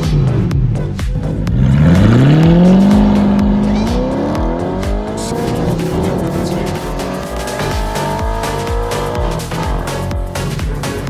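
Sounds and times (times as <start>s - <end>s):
background music with steady beat: 0.0s - 11.0s
car engine revving: 0.0s - 11.0s.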